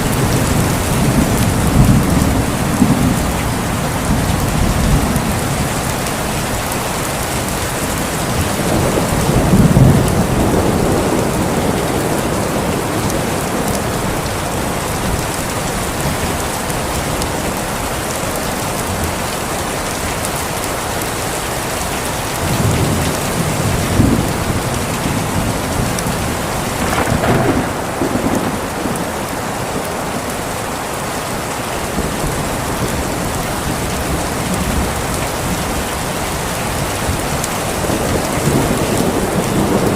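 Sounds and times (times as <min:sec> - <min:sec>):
thunder rumbling: 0:00.0 - 0:17.8, 0:22.4 - 0:30.9, 0:31.8 - 0:39.9
heavy rain on a surface: 0:00.0 - 0:39.9.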